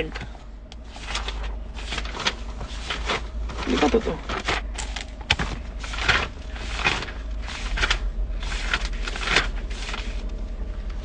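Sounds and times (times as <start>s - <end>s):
paper rustling: 0.8s - 10.3s.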